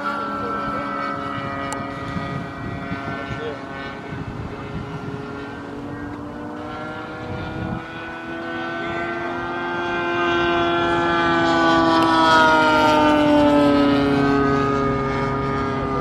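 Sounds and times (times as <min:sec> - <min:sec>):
model airplane engine buzzing: 0:00.0 - 0:16.0.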